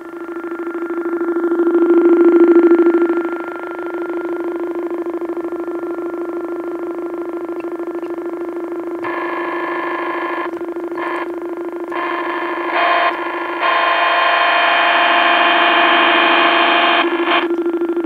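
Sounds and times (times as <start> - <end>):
harsh buzzy electronic tones: 0.0 - 18.0
keyboard low drone: 0.0 - 18.0.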